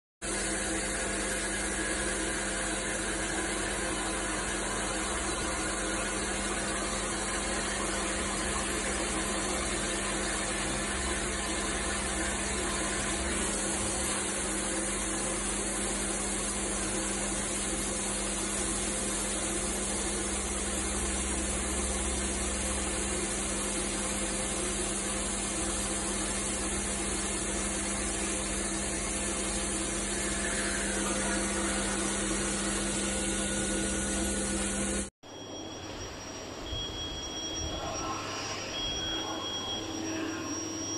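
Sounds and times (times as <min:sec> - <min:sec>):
high coolant hiss: 0:00.2 - 0:35.1
machine humming: 0:00.2 - 0:40.9.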